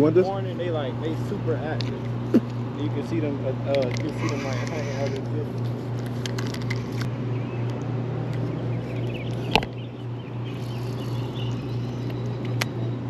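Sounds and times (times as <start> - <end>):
birds chirping: 0.0 - 5.8, 6.8 - 13.0
steady low hum: 0.0 - 13.0.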